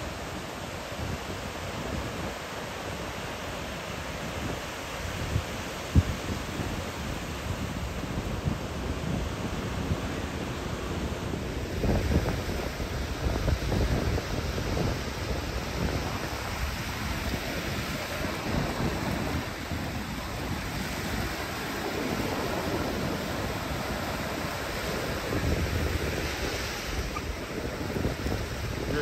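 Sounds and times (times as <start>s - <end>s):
surf washing onto beach: 0.0s - 29.0s
wind buffeting microphone: 4.2s - 29.0s.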